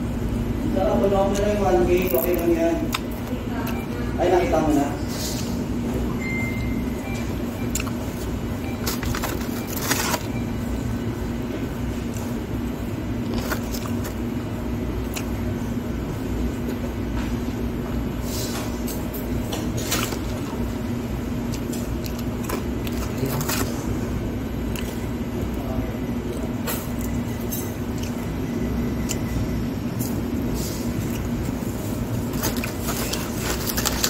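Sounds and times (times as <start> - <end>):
low background hum and rumble: 0.0 - 34.0.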